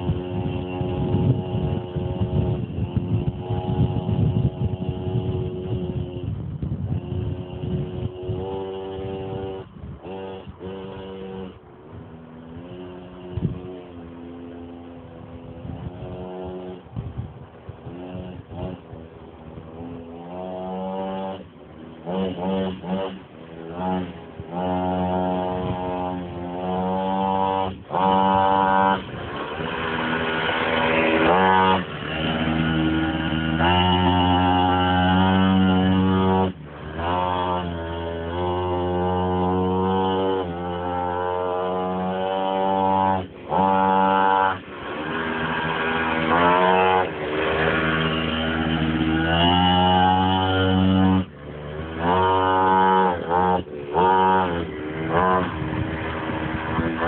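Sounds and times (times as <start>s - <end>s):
small two-stroke engine running: 0.0s - 57.0s.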